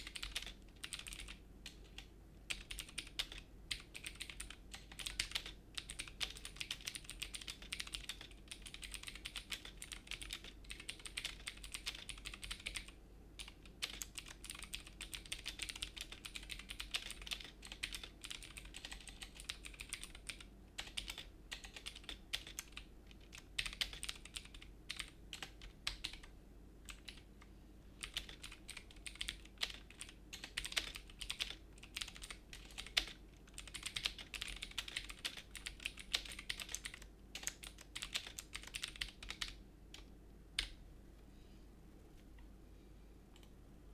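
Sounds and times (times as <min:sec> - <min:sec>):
fast typing on mechanical keyboard: 0:00.0 - 0:26.3, 0:26.9 - 0:27.2, 0:28.0 - 0:40.7.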